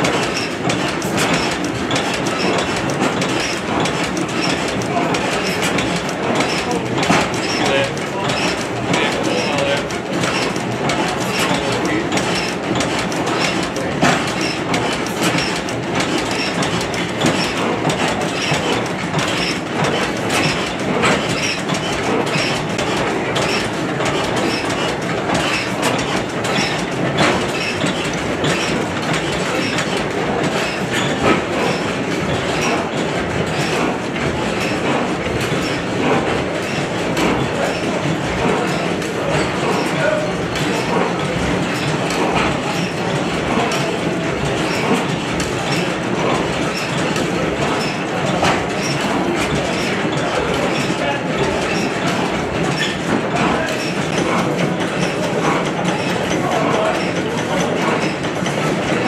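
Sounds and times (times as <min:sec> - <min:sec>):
stationary engines clattering: 0:00.0 - 0:59.0.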